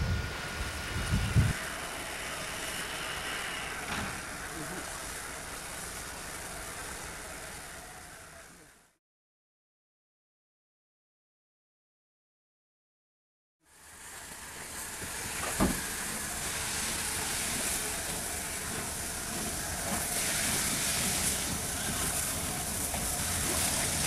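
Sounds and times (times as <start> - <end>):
steam locomotive hiss and running: 0.0 - 9.0, 13.6 - 24.0.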